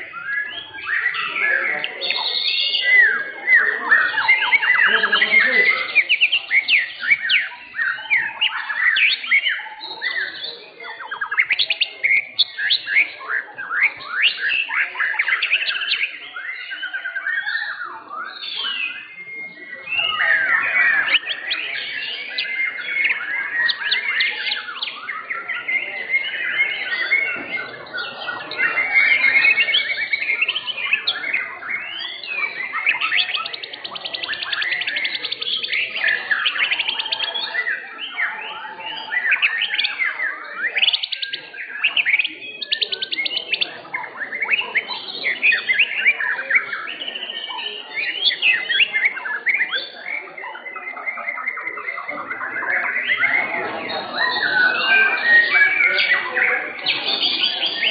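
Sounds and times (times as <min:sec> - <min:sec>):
songbirds whistling and trilling: 0:00.0 - 0:57.9.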